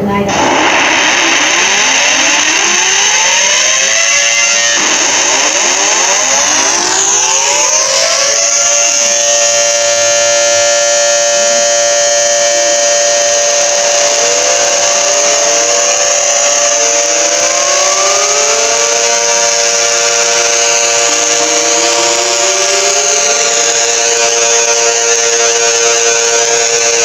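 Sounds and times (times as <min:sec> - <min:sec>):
harsh steady alarm tones: 0:00.0 - 0:27.0
rising siren tones: 0:00.0 - 0:27.0.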